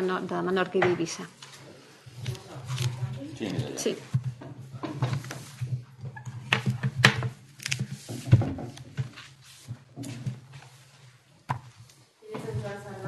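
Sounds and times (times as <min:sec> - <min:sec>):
papers rustling and shuffled: 0:01.4 - 0:13.0.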